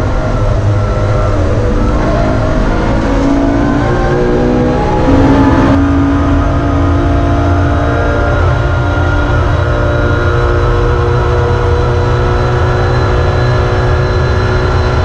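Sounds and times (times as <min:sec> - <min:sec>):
car engine running under load: 0:00.0 - 0:15.0.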